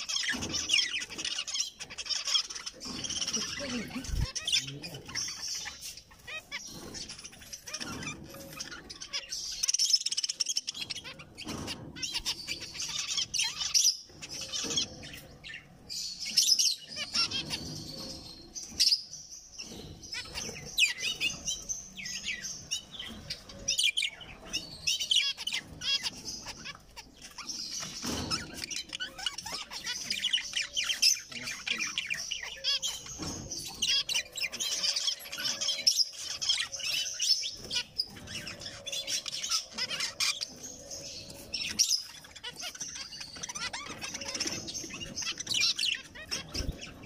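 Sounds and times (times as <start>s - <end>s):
finches chirping: 0.0s - 47.0s.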